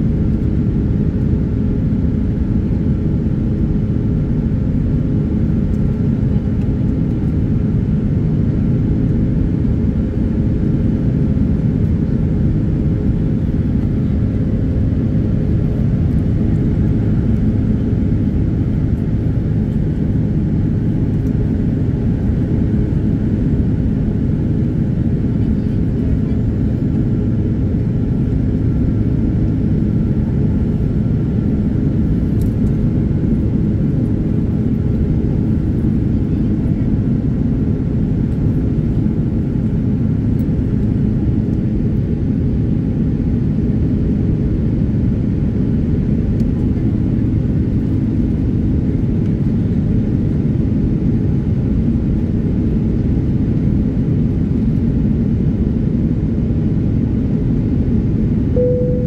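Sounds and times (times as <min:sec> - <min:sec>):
airplane cabin engine noise: 0:00.0 - 0:59.0.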